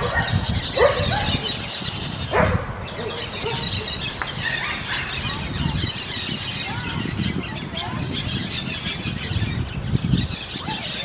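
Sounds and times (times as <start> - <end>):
parakeets chirping: 0.0 - 11.0
parakeets squawking: 0.0 - 11.0.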